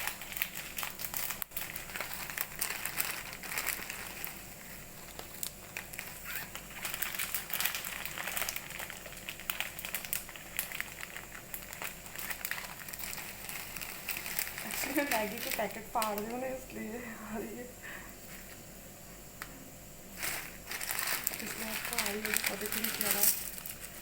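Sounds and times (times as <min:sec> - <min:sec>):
plastic wrappers crinkling: 0:00.0 - 0:17.0, 0:20.1 - 0:24.0.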